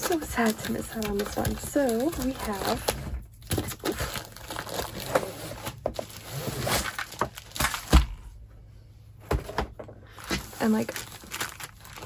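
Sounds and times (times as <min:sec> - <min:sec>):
packaging crinkling: 0:00.0 - 0:08.1, 0:10.2 - 0:12.0.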